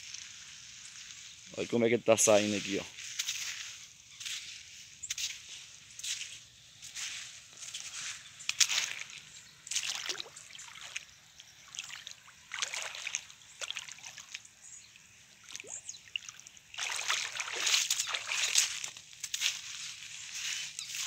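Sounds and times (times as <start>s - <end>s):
footsteps through wet mud and grass: 0.0s - 21.0s.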